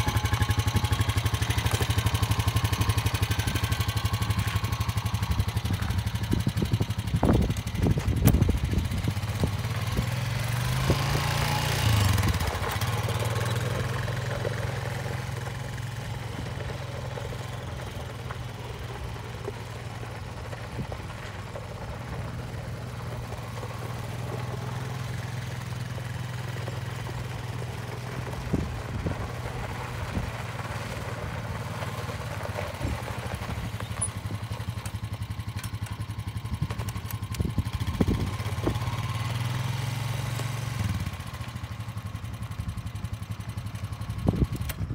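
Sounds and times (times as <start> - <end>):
atv engine running: 0.0 - 44.9.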